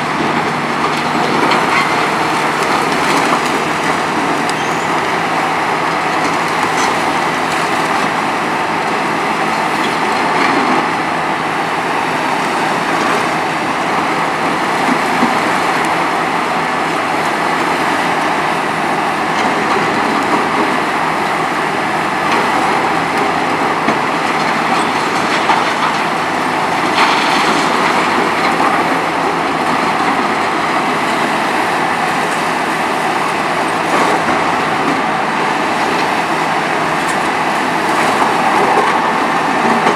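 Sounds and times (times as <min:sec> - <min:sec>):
excavator engine and hydraulics: 0:00.0 - 0:39.9.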